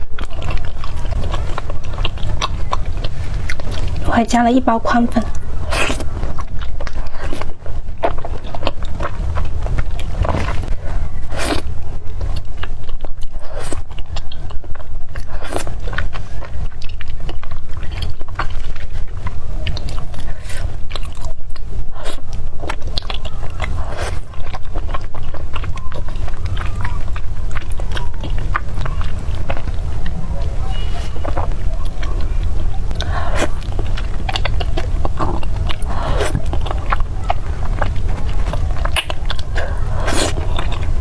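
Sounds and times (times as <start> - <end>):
steady low hum: 0.0 - 41.0
wet chewing and mouth clicks: 0.0 - 41.0.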